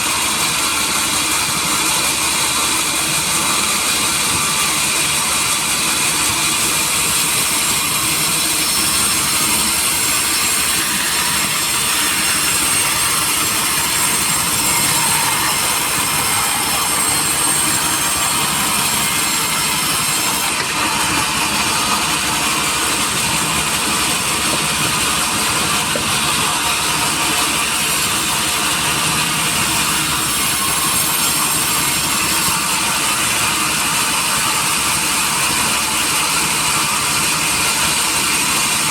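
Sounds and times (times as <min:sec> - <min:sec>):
sawmill machinery hissing: 0:00.0 - 0:38.9.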